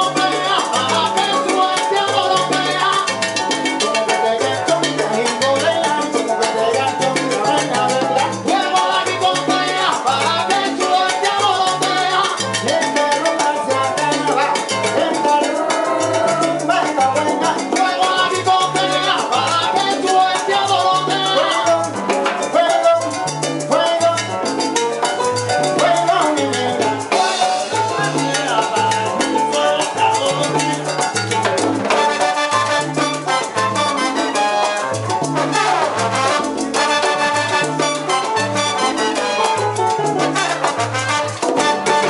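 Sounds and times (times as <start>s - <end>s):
congas and timbales: 0.0s - 42.0s
salsa band playing: 0.0s - 42.0s
upright bass line: 0.0s - 42.0s.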